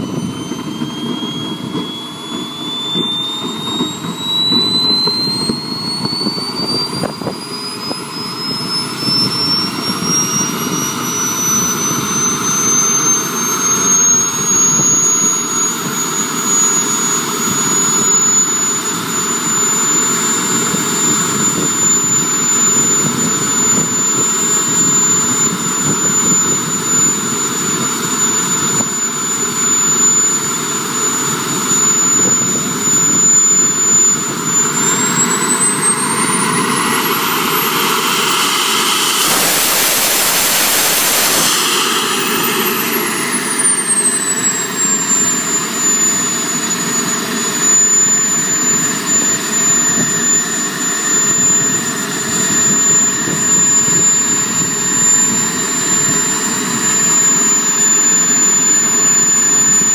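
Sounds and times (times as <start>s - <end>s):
model jet turbine whine: 0.0s - 59.9s.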